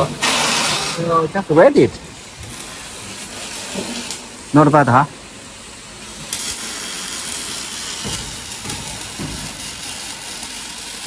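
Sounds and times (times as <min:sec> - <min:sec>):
factory background hum: 0:00.0 - 0:11.0
welding arc sizzling: 0:00.0 - 0:11.0.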